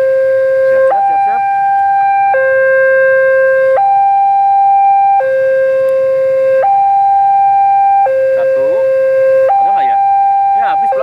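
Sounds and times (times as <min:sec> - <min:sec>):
two-tone electronic alarm: 0:00.0 - 0:11.0.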